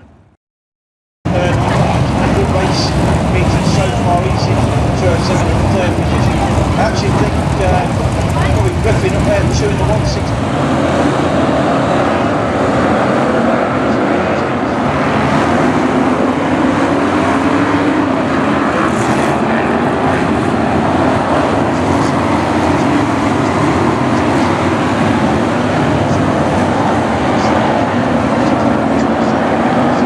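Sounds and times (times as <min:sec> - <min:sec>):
race car engines roaring: 0:01.3 - 0:30.0.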